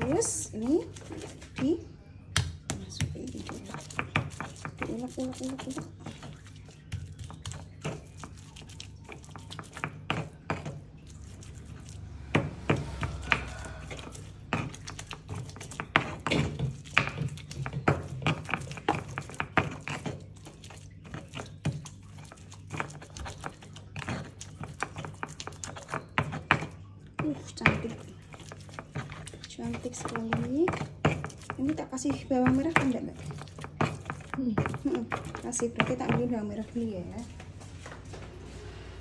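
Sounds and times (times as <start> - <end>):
stone pestle grinding in mortar: 0.0 - 1.8, 2.7 - 37.1.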